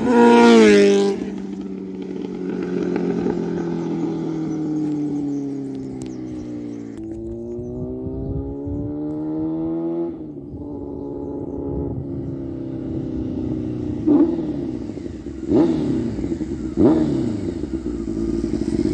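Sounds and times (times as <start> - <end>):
motorcycle engine accelerating: 0.0 - 18.9
motorcycle engine revving: 0.0 - 18.9.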